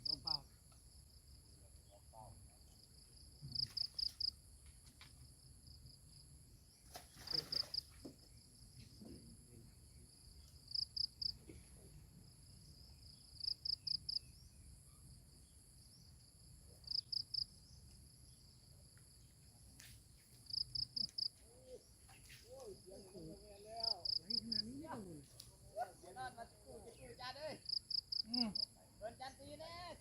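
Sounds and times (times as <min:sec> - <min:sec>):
insect high chirps: 0:00.0 - 0:04.4, 0:05.8 - 0:08.8, 0:10.1 - 0:11.4, 0:12.4 - 0:26.2, 0:26.8 - 0:30.0.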